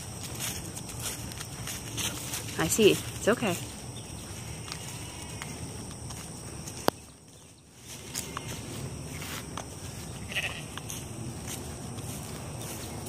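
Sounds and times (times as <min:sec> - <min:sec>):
footsteps through grass: 0:00.0 - 0:13.0.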